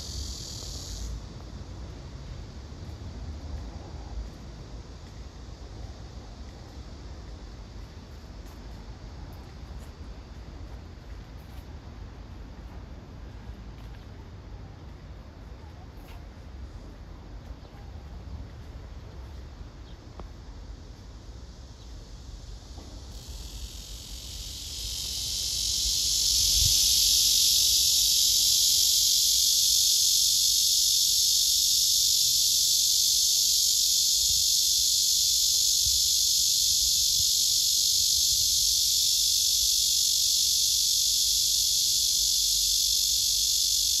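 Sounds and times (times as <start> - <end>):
cicadas buzzing: 0.0 - 44.0.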